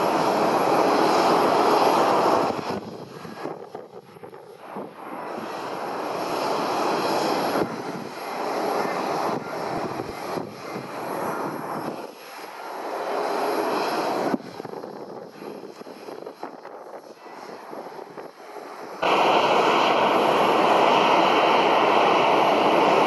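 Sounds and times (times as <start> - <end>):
airliner engines rushing: 0.0 - 23.0.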